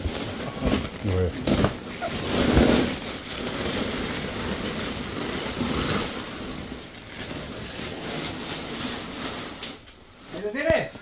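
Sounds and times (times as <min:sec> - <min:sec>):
plastic foil rustling and crinkling: 0:00.0 - 0:11.0.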